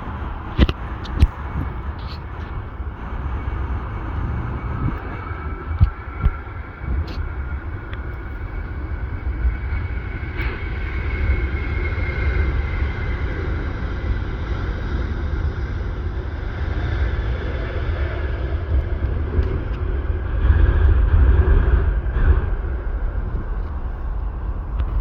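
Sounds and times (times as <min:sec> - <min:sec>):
jet engines whining: 0:00.0 - 0:25.0
low rumble: 0:00.0 - 0:25.0.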